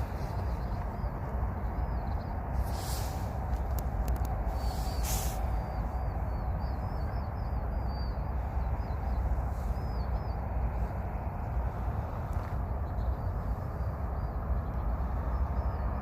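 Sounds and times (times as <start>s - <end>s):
small bird chirping: 0.0s - 16.0s
steady low rumble: 0.0s - 16.0s.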